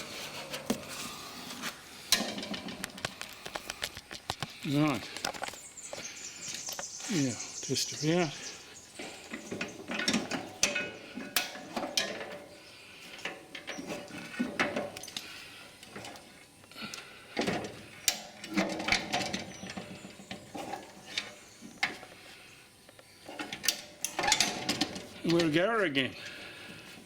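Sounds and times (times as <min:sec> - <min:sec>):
parts and tools clunking: 0:00.0 - 0:27.0.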